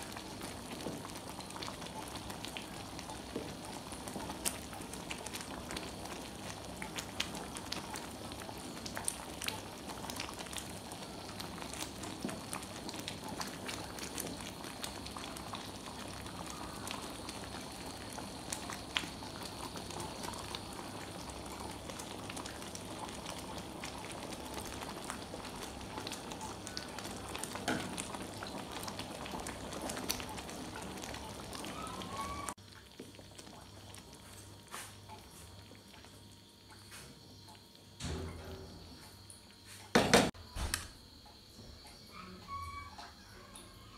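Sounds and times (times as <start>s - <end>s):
syrup bubbling in a frying pan: 0.0s - 40.3s.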